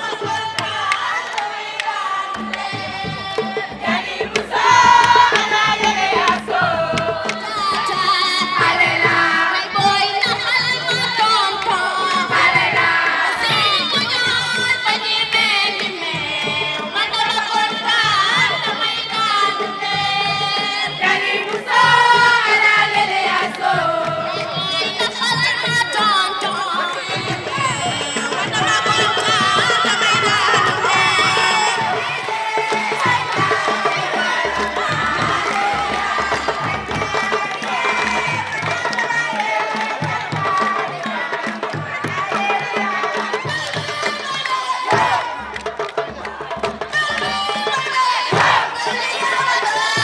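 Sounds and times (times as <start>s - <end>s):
crowd cheering: 0.0s - 15.0s, 15.7s - 50.0s
lively group singing: 0.0s - 50.0s.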